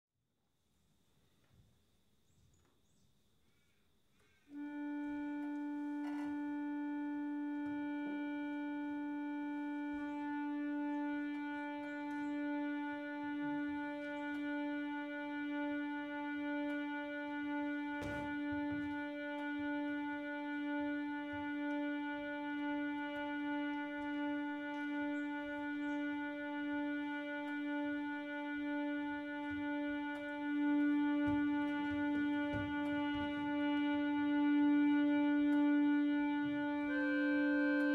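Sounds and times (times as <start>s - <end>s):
harmonium sustained reed note: 4.2s - 37.9s.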